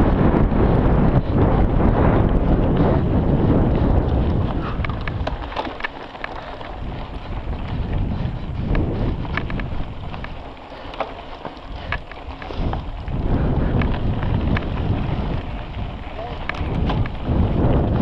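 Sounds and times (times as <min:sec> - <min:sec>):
bike clicks and rattles: 0:00.0 - 0:18.0
wind buffeting microphone: 0:00.0 - 0:18.0.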